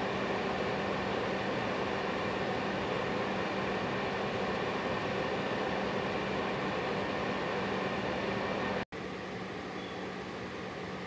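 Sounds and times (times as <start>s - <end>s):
space heater fan running: 0.0s - 11.0s.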